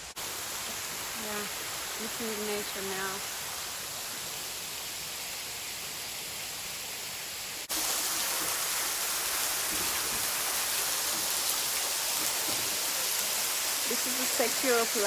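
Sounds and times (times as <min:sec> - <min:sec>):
waterfall rushing: 0:00.0 - 0:05.7, 0:07.6 - 0:15.0.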